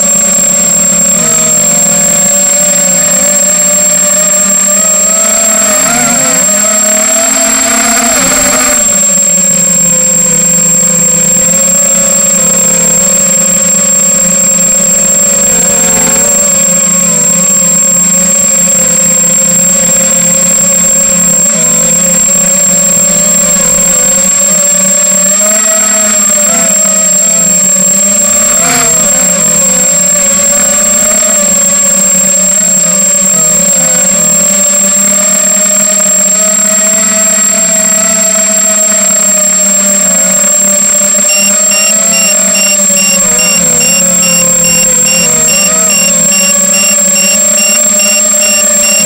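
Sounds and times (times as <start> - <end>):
drone propellers buzzing: 0.0 - 49.0
high-pitched whine: 0.0 - 49.0.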